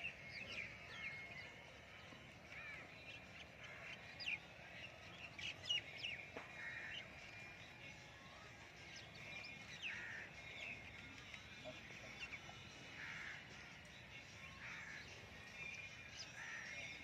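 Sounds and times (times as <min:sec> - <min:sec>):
faint bird calls: 0:00.0 - 0:07.8, 0:08.4 - 0:17.0
low outdoor background noise: 0:00.0 - 0:17.0.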